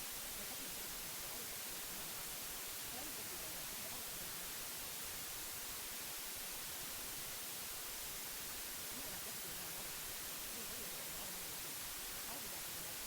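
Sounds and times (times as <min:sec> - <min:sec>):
white noise hiss: 0:00.0 - 0:13.0.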